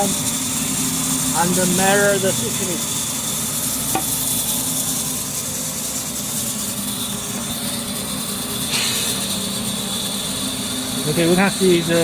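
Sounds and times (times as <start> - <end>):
woodworking machinery humming: 0.0 - 12.0.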